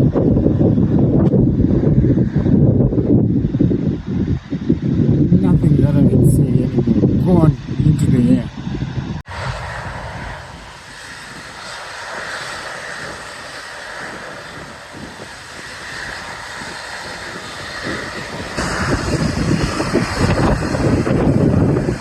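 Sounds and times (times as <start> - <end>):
airplane engine taking off: 0.0 - 22.0
wind buffeting microphone: 0.0 - 22.0.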